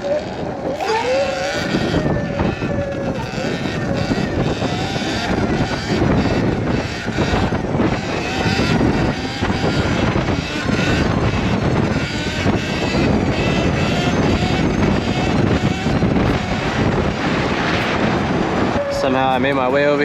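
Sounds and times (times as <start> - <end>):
electric motorbike motor whining: 0.0 - 20.0
wind buffeting microphone: 0.0 - 20.0.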